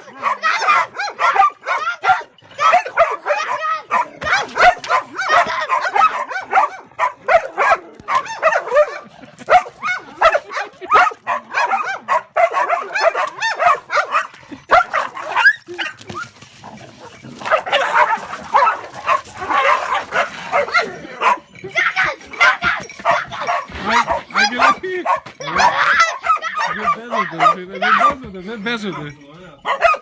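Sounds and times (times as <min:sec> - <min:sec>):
dog barking fast: 0:00.0 - 0:16.0, 0:17.4 - 0:28.2, 0:29.6 - 0:30.0.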